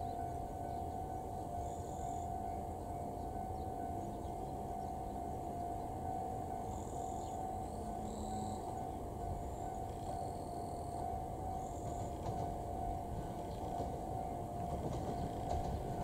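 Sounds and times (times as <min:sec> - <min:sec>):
steady high-pitched tone: 0:00.0 - 0:14.9
electric train rumbling: 0:00.0 - 0:16.0.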